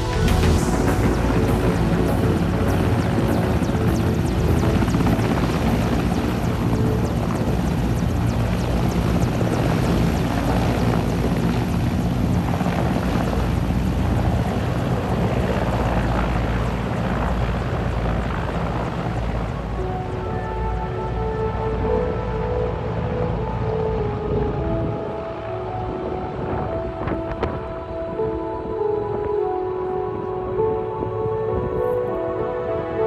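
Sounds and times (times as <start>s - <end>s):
helicopter rotor and engine: 0.0s - 27.6s.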